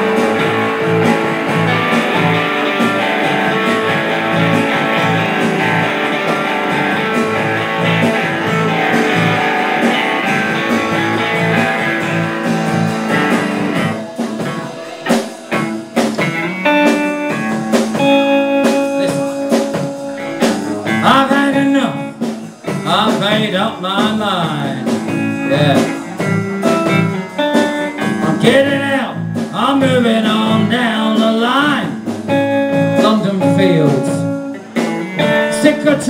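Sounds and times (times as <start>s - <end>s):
blues-rock band playing: 0.0s - 36.0s
lead guitar: 0.0s - 36.0s.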